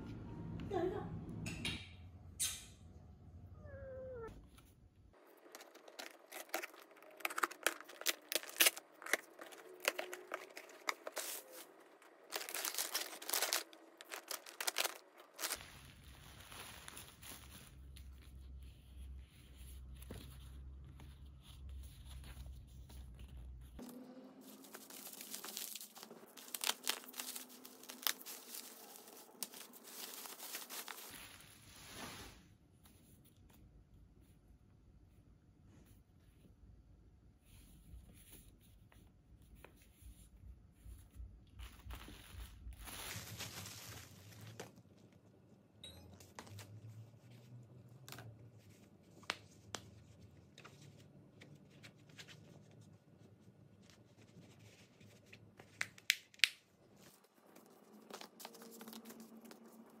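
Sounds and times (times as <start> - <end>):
bubble wrap and envelope rustling: 4.6 - 33.2, 37.5 - 45.3, 46.2 - 60.0.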